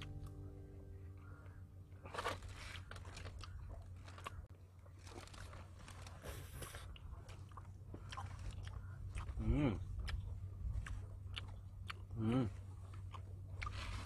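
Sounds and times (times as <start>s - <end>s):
low steady hum: 0.0s - 14.0s
chewing soft crunches: 1.2s - 14.0s.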